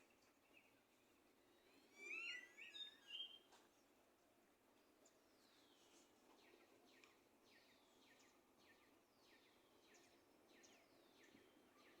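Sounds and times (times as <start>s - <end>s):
songbirds chirping faintly: 0.0s - 12.0s.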